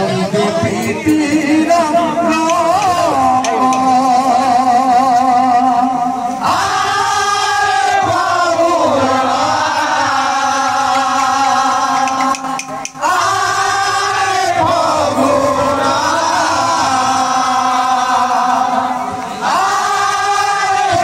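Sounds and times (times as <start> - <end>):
men chanting: 0.0 - 21.0.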